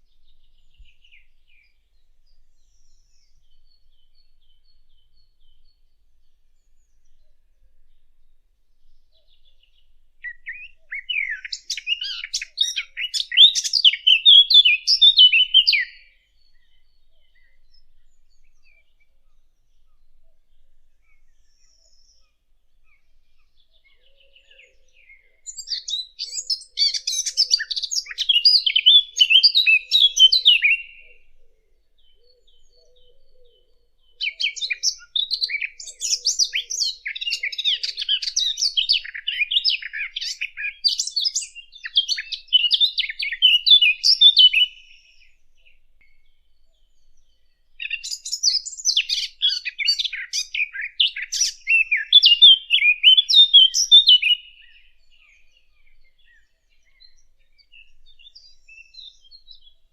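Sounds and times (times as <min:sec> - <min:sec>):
warbler singing scratchy phrases: 0:08.8 - 0:20.1, 0:20.9 - 0:59.9.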